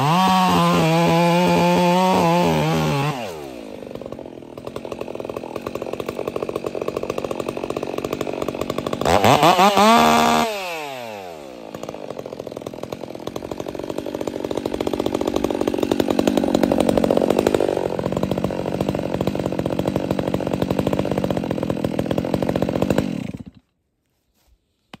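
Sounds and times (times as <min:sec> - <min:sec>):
chainsaw idling: 0:00.0 - 0:23.8.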